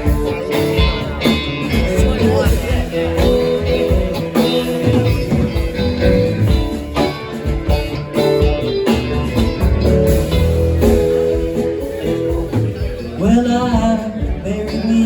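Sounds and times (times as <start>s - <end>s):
instrumental band music with guitar: 0.0s - 15.0s
low bass line: 0.0s - 15.0s.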